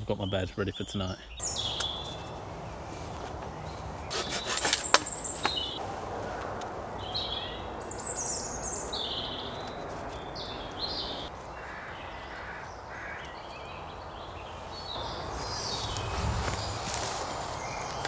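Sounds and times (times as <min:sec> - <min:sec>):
outdoor background hiss: 0:00.0 - 0:18.0
small birds chirping: 0:00.0 - 0:18.0.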